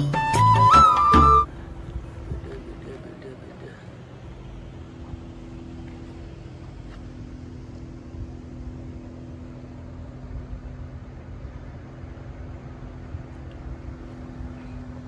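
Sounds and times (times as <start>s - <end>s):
car engine hum: 0.0s - 15.0s
road rumble: 0.0s - 15.0s.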